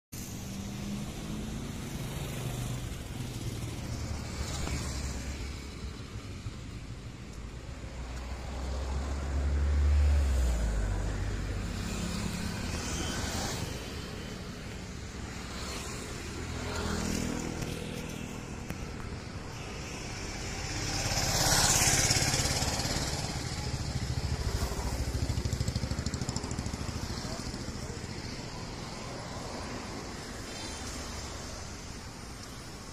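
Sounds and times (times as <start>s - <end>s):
vehicles passing by: 0.2s - 32.9s.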